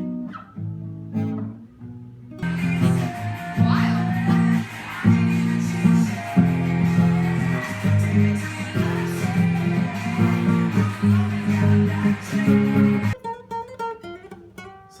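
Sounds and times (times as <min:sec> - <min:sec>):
plucked guitar notes: 0:00.0 - 0:15.0
strummed acoustic guitar: 0:00.0 - 0:15.0.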